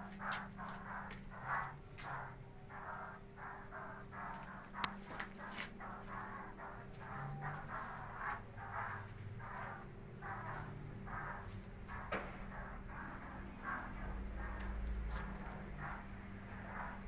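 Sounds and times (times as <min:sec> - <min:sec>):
birds harsh chattering calls: 0:00.0 - 0:17.0
steady low hum: 0:00.0 - 0:17.0.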